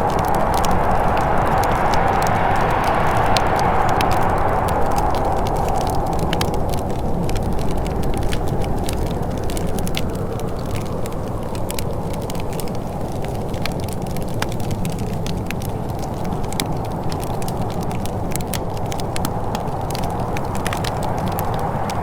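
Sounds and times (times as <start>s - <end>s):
low rushing of fire: 0.0s - 22.0s
wood fire crackling: 0.0s - 22.0s.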